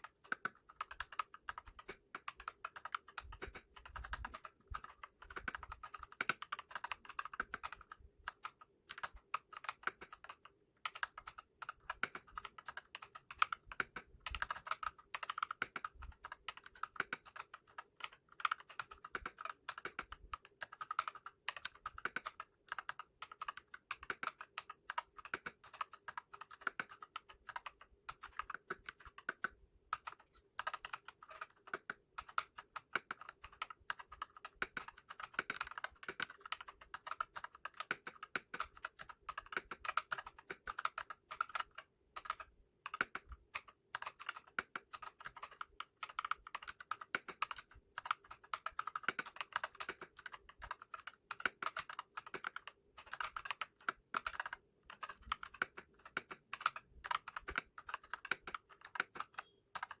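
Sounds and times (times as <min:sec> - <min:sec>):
mechanical keyboard typing: 0:00.0 - 1:00.0.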